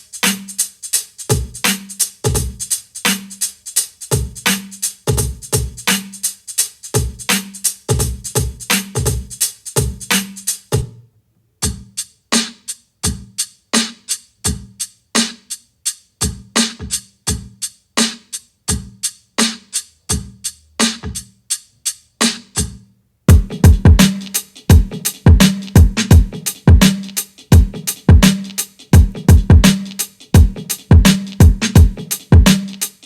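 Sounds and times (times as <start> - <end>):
drum beat: 0.0 - 11.0, 11.6 - 15.5, 16.2 - 21.3, 22.2 - 33.0.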